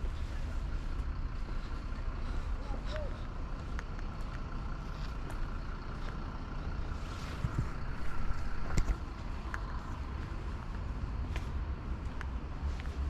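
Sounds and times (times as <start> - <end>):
vehicle traffic rumble: 0.0 - 13.0.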